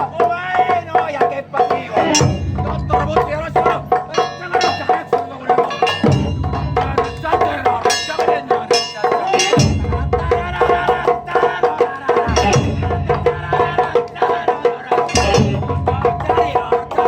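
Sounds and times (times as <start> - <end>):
taiko drums and shamisen playing: 0.0 - 17.0
deep big drum strike: 1.6 - 17.0.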